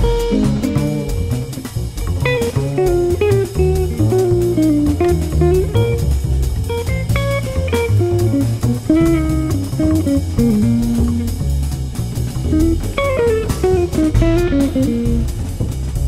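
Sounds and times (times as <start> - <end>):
bass: 0.0 - 16.0
jazz guitar melody: 0.0 - 16.0
light drum pattern: 0.0 - 16.0.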